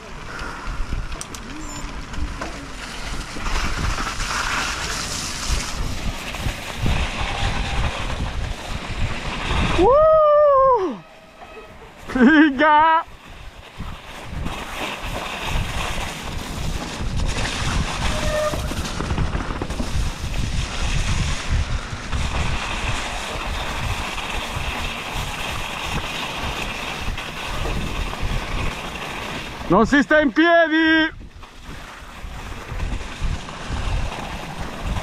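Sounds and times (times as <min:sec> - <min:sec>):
bike tyres rumbling on mud: 0:00.0 - 0:11.0, 0:11.9 - 0:35.0
wind buffeting microphone: 0:00.0 - 0:11.1, 0:13.0 - 0:29.9, 0:31.0 - 0:35.0.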